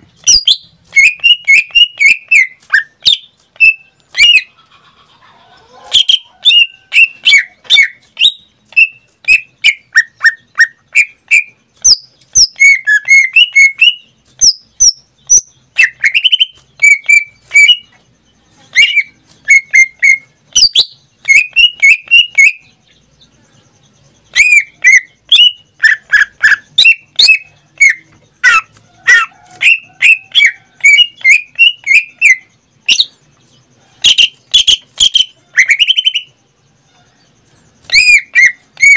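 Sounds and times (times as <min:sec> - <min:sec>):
bird singing whistled notes: 0:00.0 - 0:04.5, 0:06.0 - 0:38.9.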